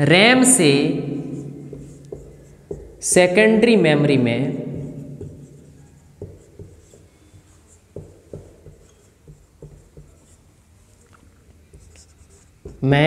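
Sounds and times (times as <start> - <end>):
marker writing on whiteboard: 0.0 - 13.0.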